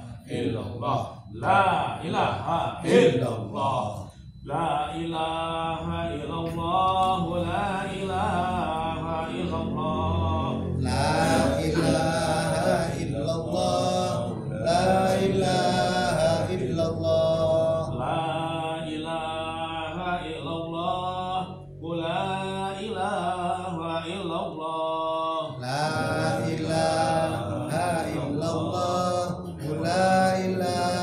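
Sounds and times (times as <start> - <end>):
men chanting together: 0.0 - 31.0.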